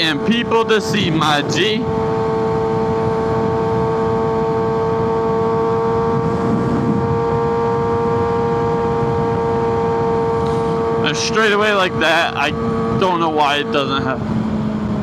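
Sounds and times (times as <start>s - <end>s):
rushing wind: 0.0s - 13.5s
motorcycle engine hum: 0.0s - 15.0s
road noise: 0.0s - 15.0s.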